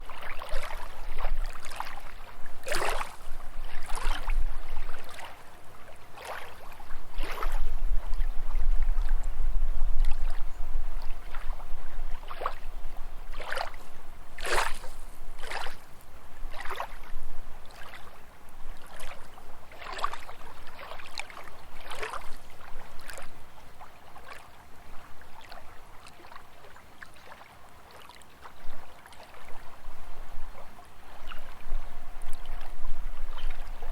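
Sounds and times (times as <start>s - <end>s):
lake waves lapping: 0.0s - 9.3s, 10.0s - 33.9s
soft water splashes: 0.0s - 33.9s.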